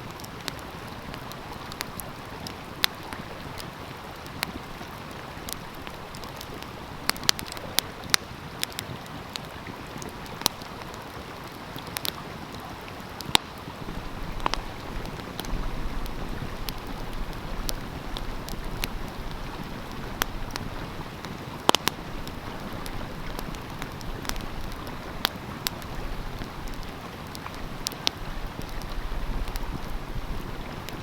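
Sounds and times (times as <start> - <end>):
stream rushing: 0.0 - 31.0
wood fire crackling and popping: 0.0 - 31.0.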